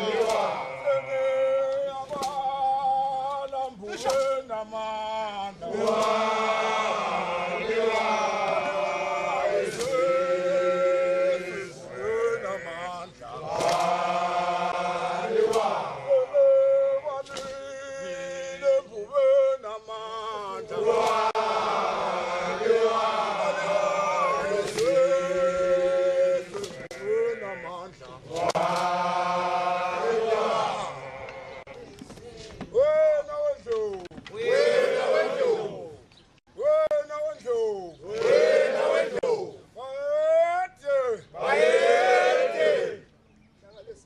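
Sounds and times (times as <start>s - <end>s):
men chanting a song: 0.0s - 31.9s, 34.3s - 40.2s, 40.9s - 43.0s.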